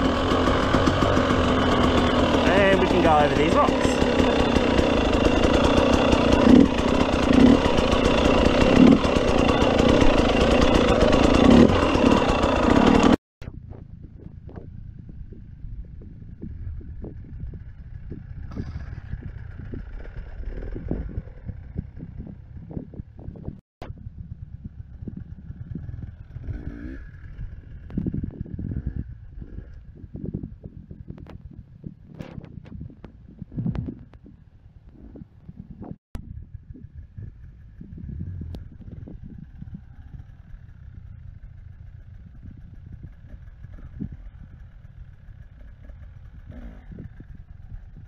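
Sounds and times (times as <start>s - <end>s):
motorcycle engine revving: 0.0s - 13.2s, 14.4s - 48.0s.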